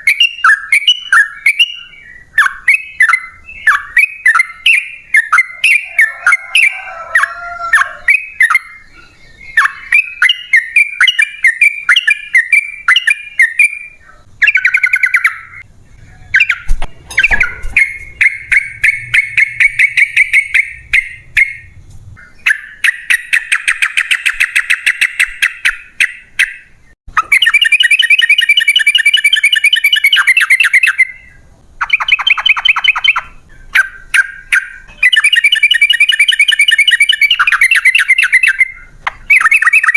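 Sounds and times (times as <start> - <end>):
bulbul singing rapid trills: 0.0 - 39.9.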